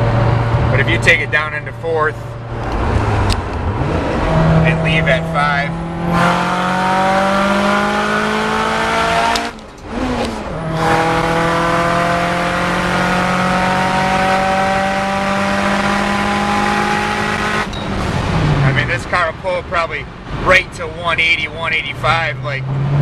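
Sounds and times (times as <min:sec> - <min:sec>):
car engine revving at full throttle: 0:00.0 - 0:23.0.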